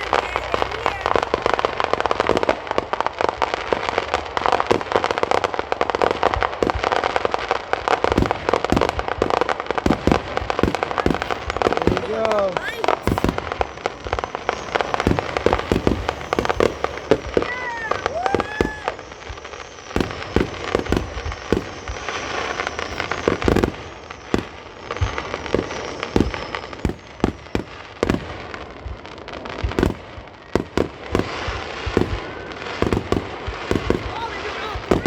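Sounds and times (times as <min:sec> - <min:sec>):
fireworks bangs and booms: 0:00.0 - 0:35.0
fireworks crackling: 0:00.0 - 0:35.0.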